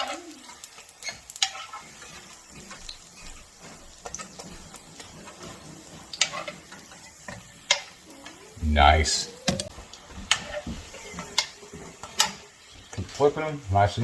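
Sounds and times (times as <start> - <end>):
tortillas sizzling in a pan: 0.0 - 14.0.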